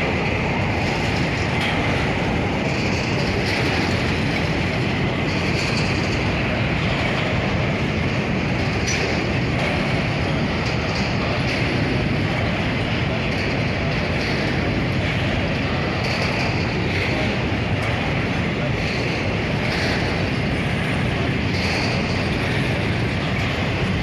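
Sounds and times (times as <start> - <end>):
faint rail clacks: 0.0 - 24.0
train wheels rumbling on rail: 0.0 - 24.0.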